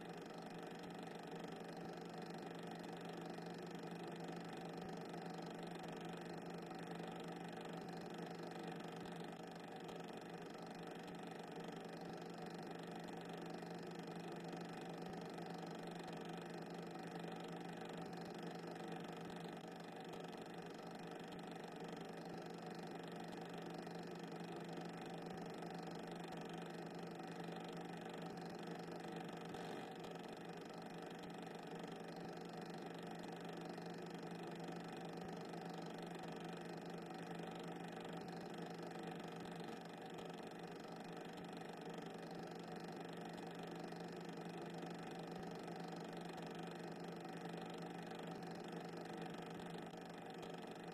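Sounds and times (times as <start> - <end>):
faint steady hum with hiss: 0.0 - 50.9.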